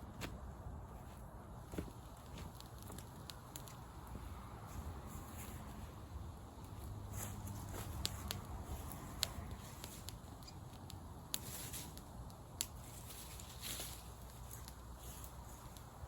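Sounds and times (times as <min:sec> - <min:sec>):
campfire crackling: 0:00.0 - 0:16.0
fire popping: 0:00.0 - 0:16.0
fire hissing: 0:00.3 - 0:16.0.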